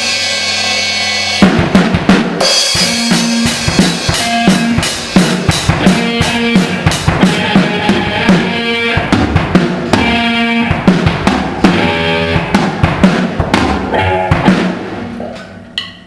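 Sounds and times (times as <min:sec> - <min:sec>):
drum kit beat: 0:00.0 - 0:16.0
guitar chords: 0:01.6 - 0:16.0.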